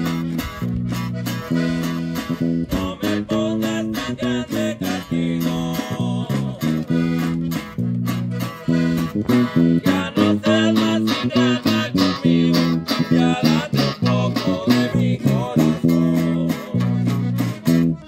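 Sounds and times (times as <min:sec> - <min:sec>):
band with accordion and guitars: 0:00.0 - 0:18.0.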